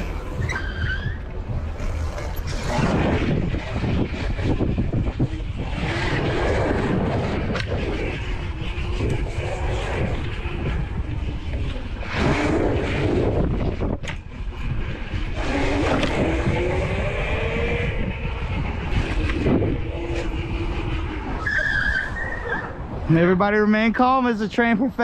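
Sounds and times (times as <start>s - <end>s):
short rising whines: 0.0s - 23.3s
wind rushing over microphone: 0.0s - 25.0s.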